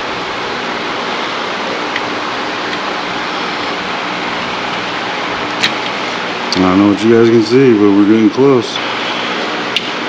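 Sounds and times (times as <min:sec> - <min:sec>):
electric fan whooshing: 0:00.0 - 0:10.0.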